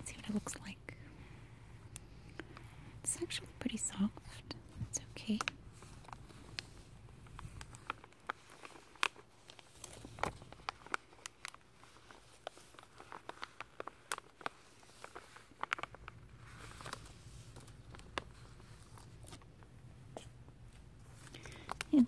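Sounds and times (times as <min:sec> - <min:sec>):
plastic sheeting crinkling: 0:02.4 - 0:22.0.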